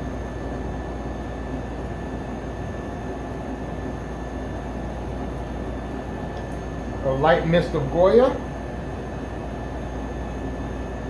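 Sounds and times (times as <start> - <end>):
ventilation fan rumble: 0.0 - 11.0.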